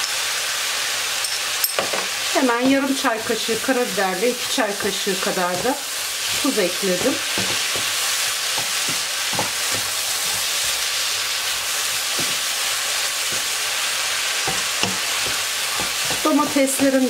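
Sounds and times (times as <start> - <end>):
vegetables sizzling in a frying pan: 0.0 - 17.0
wooden spoon scraping a pan: 2.7 - 17.0.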